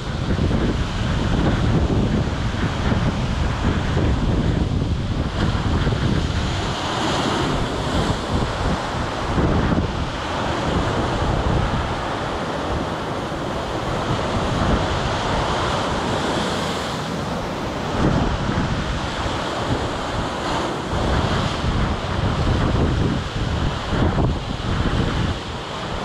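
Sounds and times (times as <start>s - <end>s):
ocean surf breaking on rocks: 0.0s - 26.0s
wind buffeting microphone: 0.0s - 26.0s.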